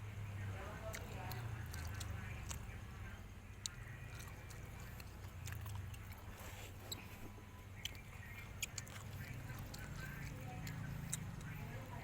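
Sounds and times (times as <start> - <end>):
low steady hum: 0.0 - 12.0
person chewing food: 0.8 - 12.0.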